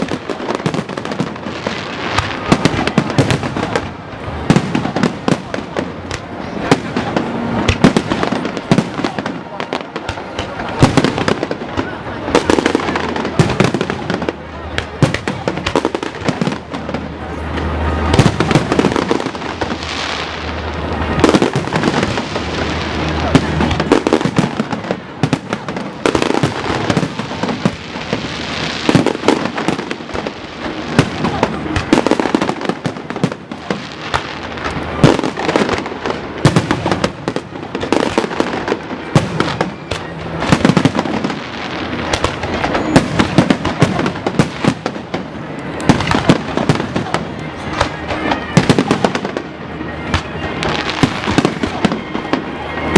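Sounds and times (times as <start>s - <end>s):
fireworks bursts and crackle: 0.0s - 52.9s.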